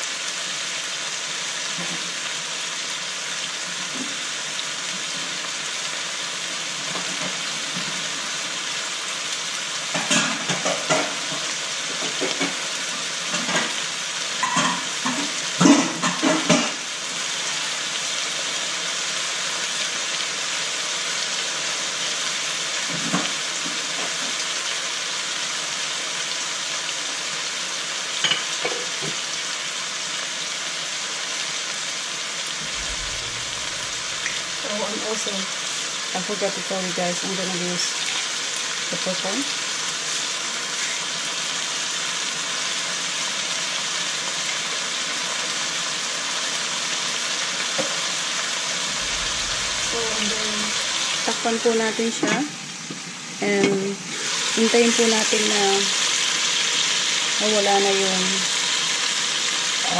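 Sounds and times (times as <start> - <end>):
chicken sizzling in a wok: 0.0 - 59.9.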